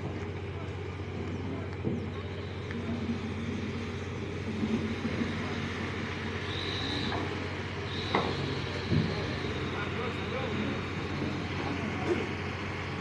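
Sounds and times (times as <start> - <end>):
constant hum: 0.0 - 13.0
low engine drone: 0.0 - 13.0.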